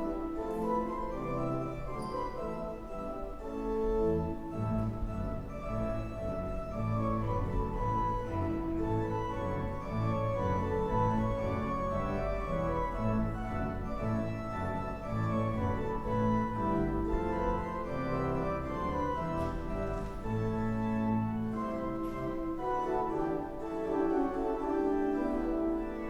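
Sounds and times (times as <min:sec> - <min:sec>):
church organ music: 0:00.0 - 0:26.0.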